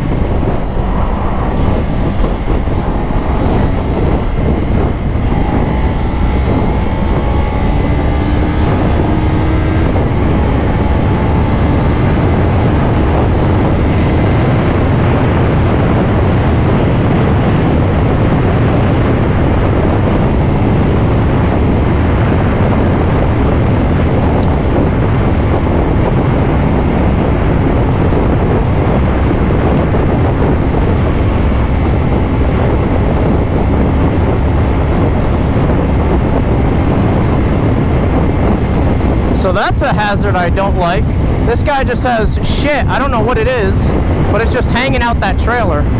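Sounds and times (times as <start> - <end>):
motorcycle engine: 0.0 - 45.9
road noise: 0.0 - 45.9
wind rush on microphone: 0.0 - 45.9.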